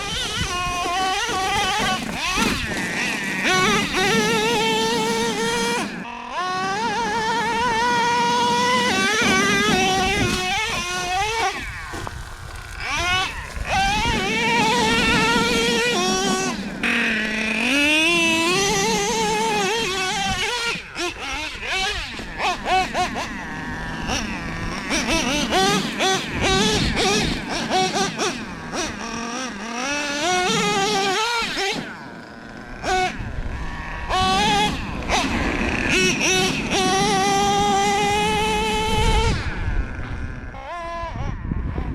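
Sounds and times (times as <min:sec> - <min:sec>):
nitro engine revving: 0:00.0 - 0:41.9.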